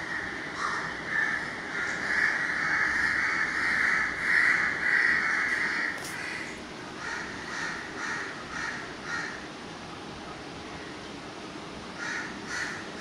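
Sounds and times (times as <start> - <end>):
birds cawing: 0.0 - 9.6, 11.9 - 13.0.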